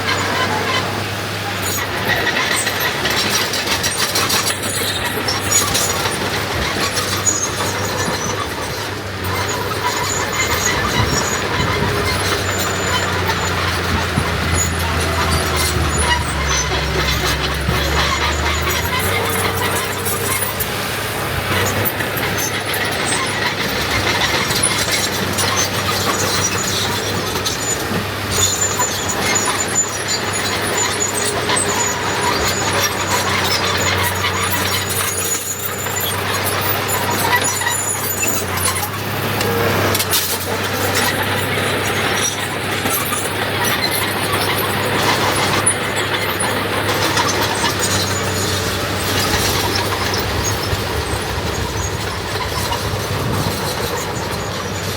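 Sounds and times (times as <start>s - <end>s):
heavy diesel machinery running: 0.0s - 54.9s
high-pitched metallic squeals: 0.0s - 54.9s.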